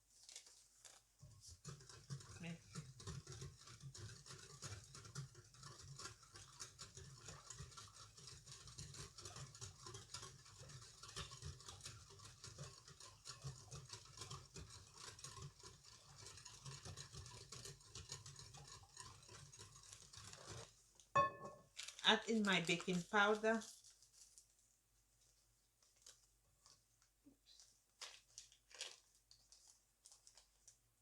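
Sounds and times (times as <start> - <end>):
batter mixing scrapes and clicks: 0.0 - 31.0.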